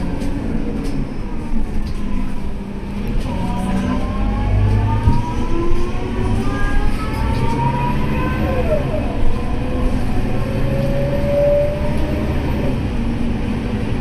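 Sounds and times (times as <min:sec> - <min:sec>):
bus diesel engine: 0:00.0 - 0:14.0.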